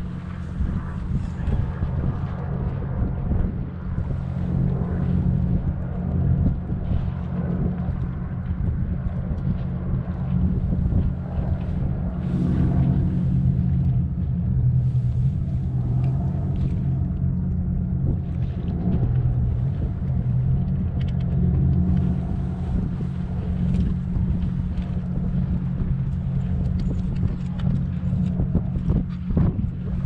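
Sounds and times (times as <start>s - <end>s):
low engine drone: 0.0s - 30.0s
wind buffeting the microphone: 0.0s - 30.0s.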